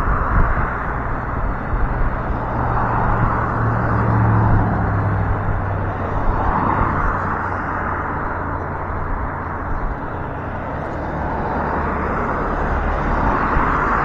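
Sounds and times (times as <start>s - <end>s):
cars passing with tyre hiss: 0.0s - 14.0s
low engine drone: 0.0s - 14.0s.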